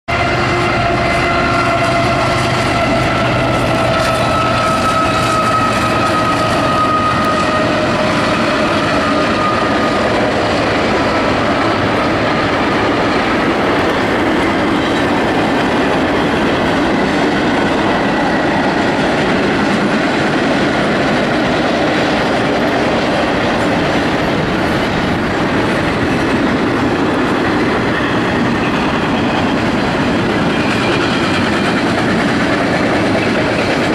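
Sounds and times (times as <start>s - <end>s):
clickety-clack of freight cars: 0.1s - 33.9s
diesel locomotives passing: 0.1s - 33.9s
wheel-on-rail noise: 0.1s - 33.9s.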